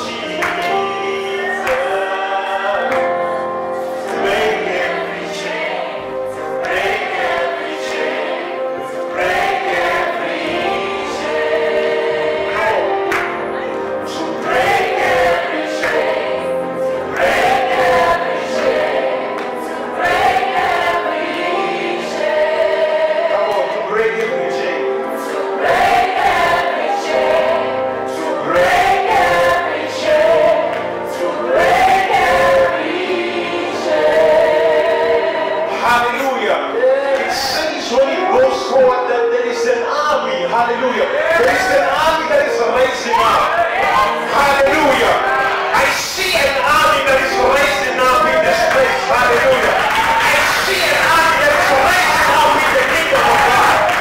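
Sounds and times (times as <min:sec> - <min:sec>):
backing vocal group: 0:00.0 - 0:38.8, 0:40.8 - 0:54.0
sustained keyboard chords: 0:00.0 - 0:54.0.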